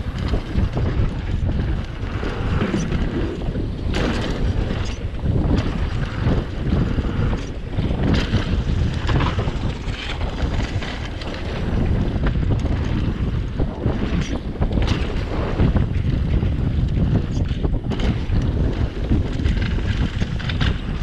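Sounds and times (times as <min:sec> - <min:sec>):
bike knocks and rattles: 0:00.0 - 0:21.0
tyres rumbling on trail: 0:00.0 - 0:21.0
wind buffeting microphone: 0:00.0 - 0:21.0.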